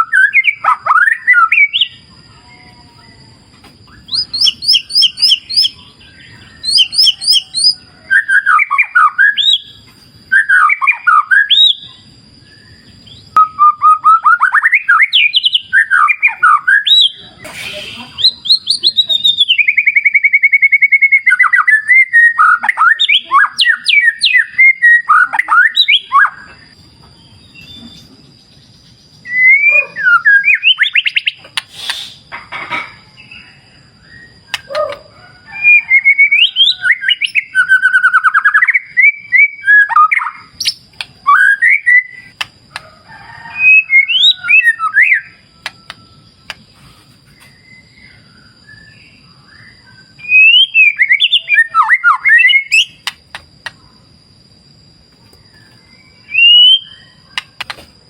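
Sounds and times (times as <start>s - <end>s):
bird singing whistled phrases: 0.0s - 3.2s, 3.8s - 26.7s, 29.2s - 32.2s, 35.6s - 42.4s, 43.6s - 46.6s, 47.4s - 53.1s, 55.5s - 57.7s.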